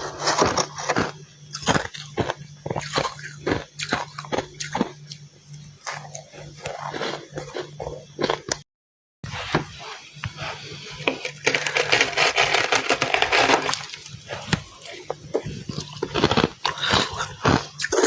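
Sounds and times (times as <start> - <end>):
crunching and chewing frost: 0.0 - 8.6, 9.8 - 18.0.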